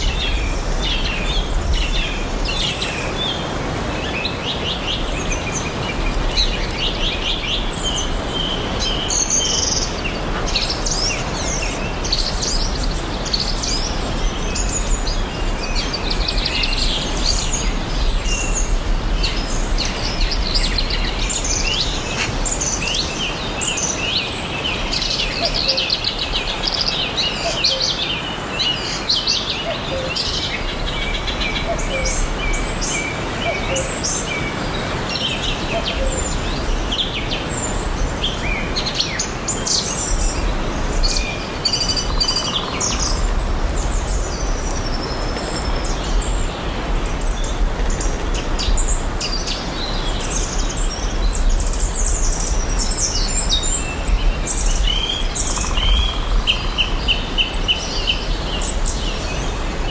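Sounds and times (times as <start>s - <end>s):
rushing lake and forest ambience: 0.0s - 59.9s
songbirds chirping and trilling: 0.0s - 59.9s.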